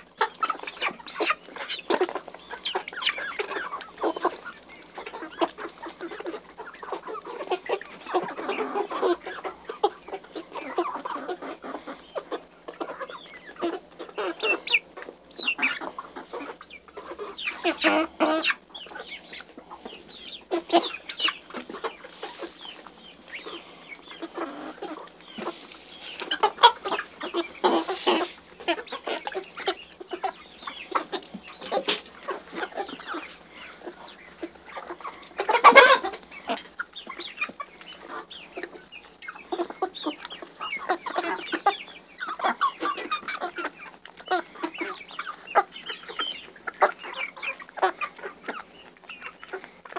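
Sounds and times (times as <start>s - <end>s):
chickens pecking and scuffling: 0.0s - 49.9s
chicks clucking and chirping: 0.0s - 49.9s.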